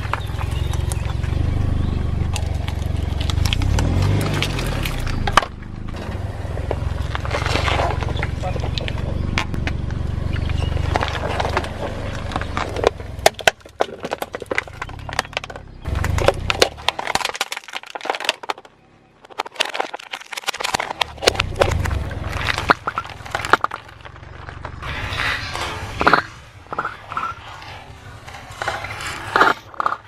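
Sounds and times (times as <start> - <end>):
low car rumble: 0.0 - 30.0
tyres crushing objects: 2.3 - 30.0.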